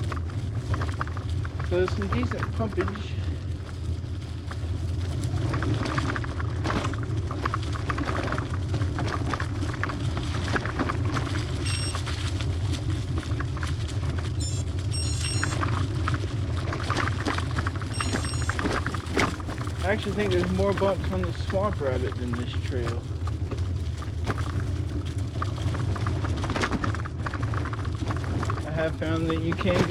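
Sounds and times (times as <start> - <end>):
bicycle rattling over bumps: 0.0 - 29.9
wind rumble on microphone: 0.0 - 29.9.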